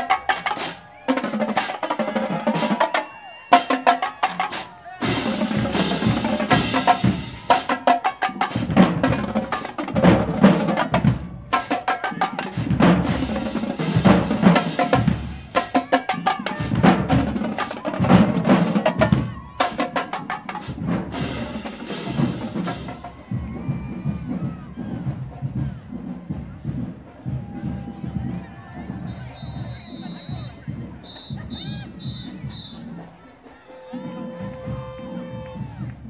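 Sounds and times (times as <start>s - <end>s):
snare drums: 0.0s - 36.0s
tenor drums: 0.0s - 36.0s
bass drums: 5.0s - 7.8s, 8.5s - 33.2s, 34.3s - 36.0s.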